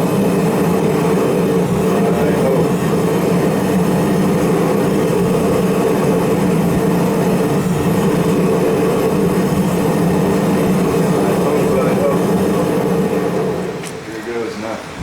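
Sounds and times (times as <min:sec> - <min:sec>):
gas forge burner roaring: 0:00.0 - 0:15.0.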